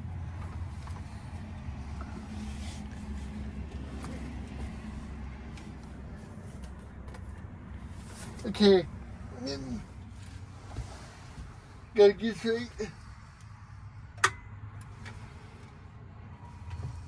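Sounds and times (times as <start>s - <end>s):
van engine idling: 0.0s - 17.0s.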